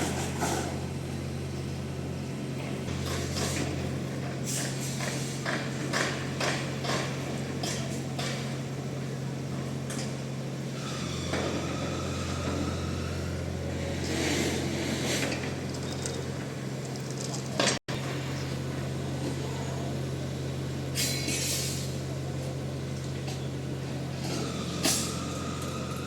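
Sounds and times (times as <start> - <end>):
construction equipment engine running: 0.0 - 26.0.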